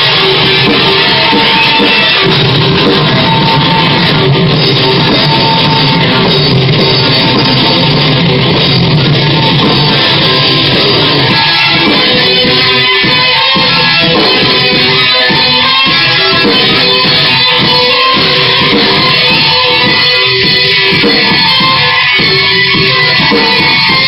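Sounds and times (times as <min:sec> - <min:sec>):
drum kit: 0:00.0 - 0:24.0
electric guitars: 0:00.0 - 0:24.0.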